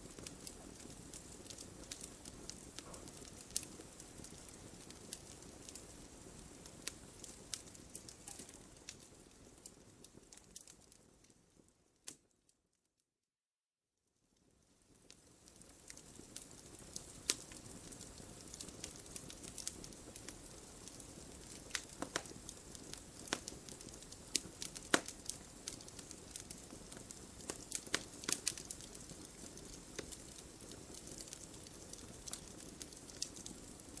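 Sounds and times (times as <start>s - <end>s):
wood fire crackling: 0.0s - 12.5s, 14.4s - 34.0s.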